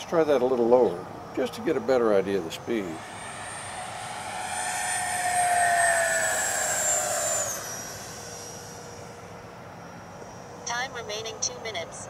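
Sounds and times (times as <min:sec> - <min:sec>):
electric jet fan whine: 0:00.0 - 0:12.0.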